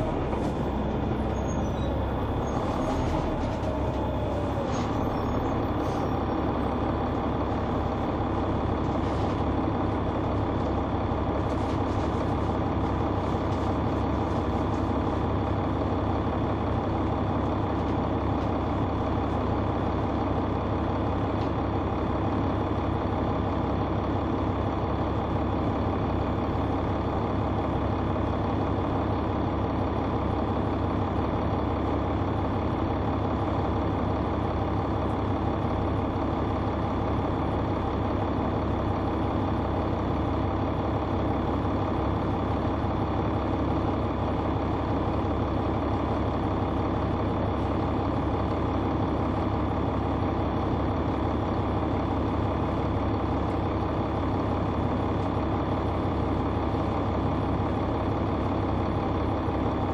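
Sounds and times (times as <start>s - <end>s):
diesel bus engine running: 0.0s - 59.9s.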